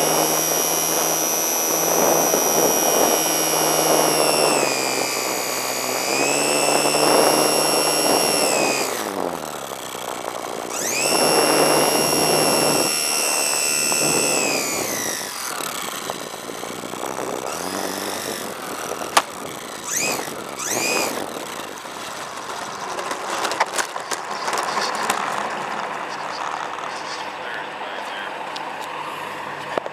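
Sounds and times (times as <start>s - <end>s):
electric motor whining: 0.0s - 27.6s
clicks on pavement: 0.1s - 27.4s.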